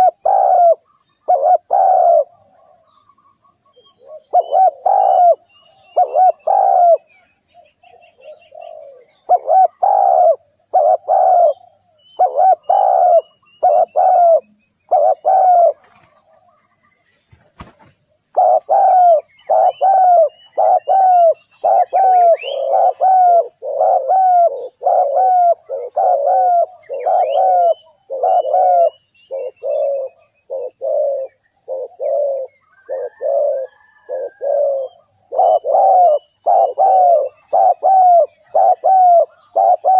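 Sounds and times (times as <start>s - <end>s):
doves cooing: 0.0s - 2.9s, 3.7s - 7.1s, 8.0s - 16.7s, 18.4s - 39.9s
small birds chirping: 0.0s - 39.9s.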